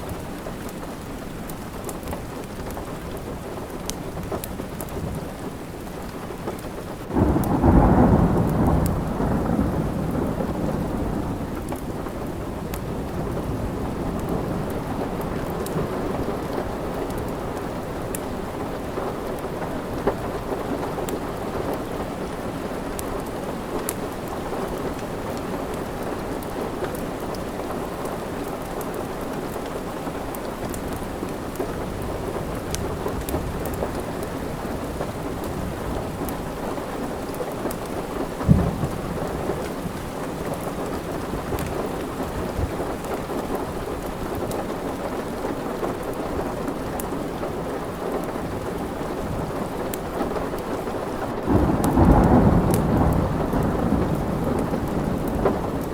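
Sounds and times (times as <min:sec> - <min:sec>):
faint crackles: 0:00.0 - 0:55.9
steady rain: 0:00.0 - 0:55.9
thunder rumble: 0:07.1 - 0:55.9.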